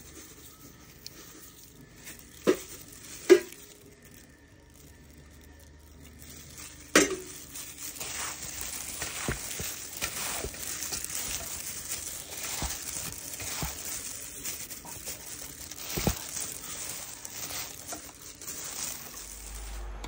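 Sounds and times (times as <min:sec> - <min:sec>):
plastic glove crinkling: 0:00.0 - 0:20.0
wet noodles squishing: 0:00.0 - 0:20.0.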